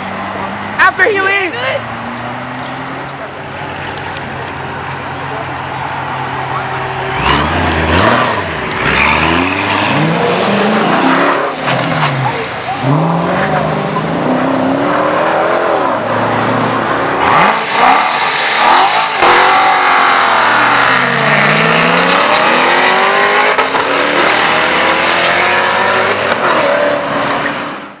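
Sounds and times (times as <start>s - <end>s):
car engine revving and accelerating: 5.3s - 28.0s.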